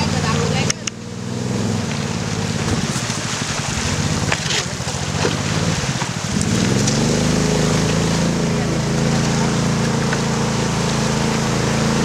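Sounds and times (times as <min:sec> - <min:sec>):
motorboat engine running: 0:00.0 - 0:12.0.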